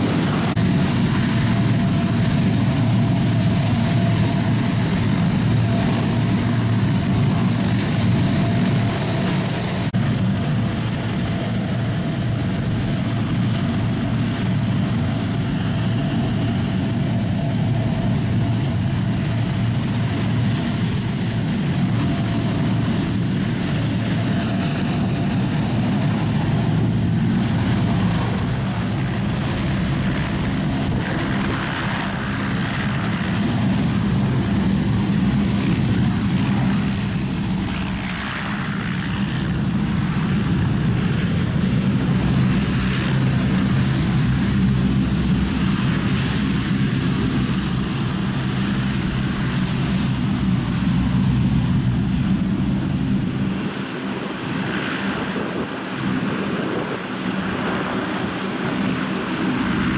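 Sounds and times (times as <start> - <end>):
deep propeller drone: 0.0 - 59.9.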